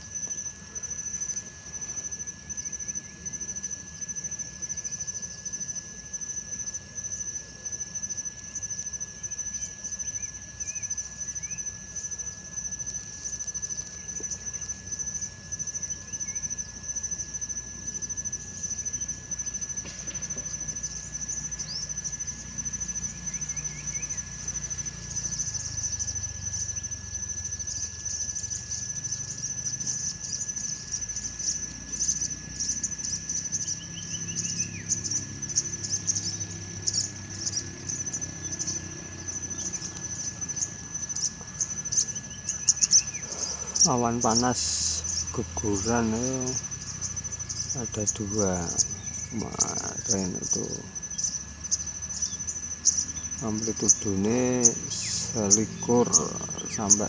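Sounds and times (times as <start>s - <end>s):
crickets chirping: 0.0s - 57.0s
faint steady tone: 0.0s - 57.0s
low background hum: 0.0s - 57.0s.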